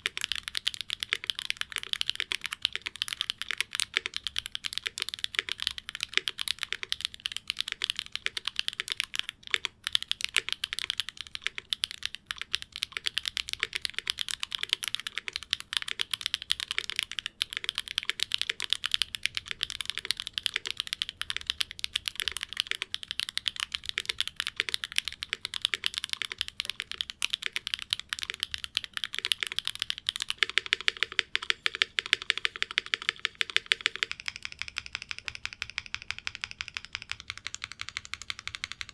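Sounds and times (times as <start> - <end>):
mechanical keyboard typing clacks: 0.0 - 38.9.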